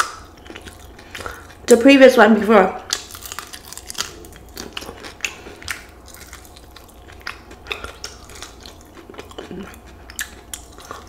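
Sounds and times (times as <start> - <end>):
chewing crispy chicken: 0.0 - 1.7, 2.8 - 11.0.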